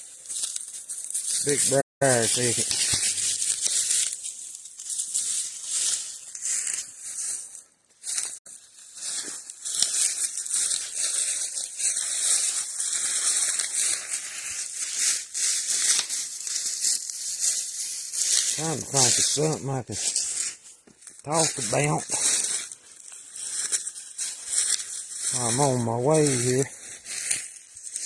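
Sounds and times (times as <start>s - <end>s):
footsteps crunching through dry leaves: 0.0s - 28.0s.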